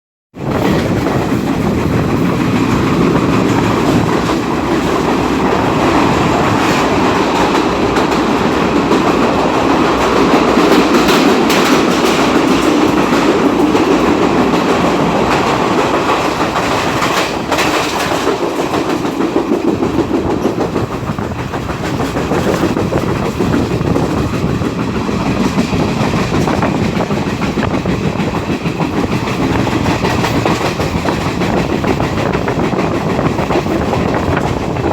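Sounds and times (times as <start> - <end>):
train rumble: 0.4 - 34.9.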